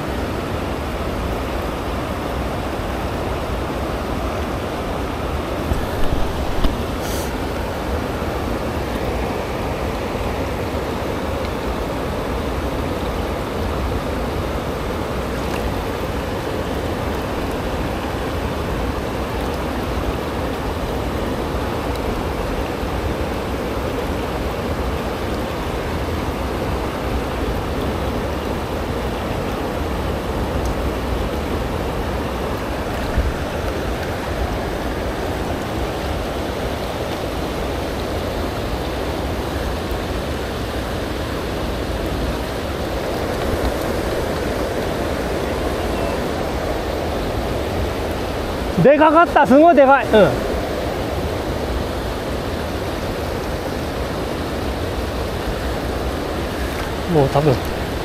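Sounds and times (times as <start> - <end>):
river water over stones: 0.0 - 58.0.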